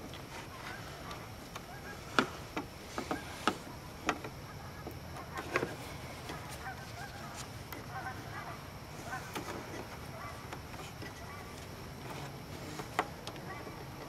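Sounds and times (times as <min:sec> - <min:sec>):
faint calls: 0:00.0 - 0:14.0.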